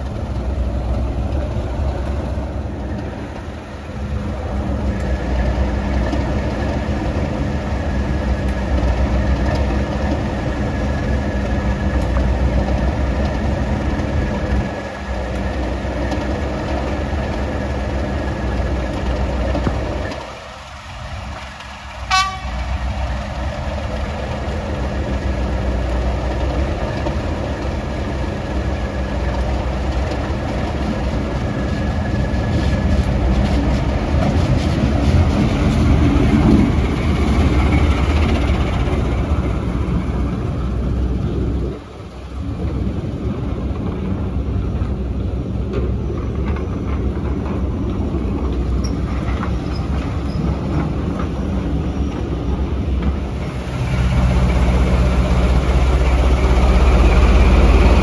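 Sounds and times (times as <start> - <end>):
diesel locomotive engine humming: 0.0 - 58.0.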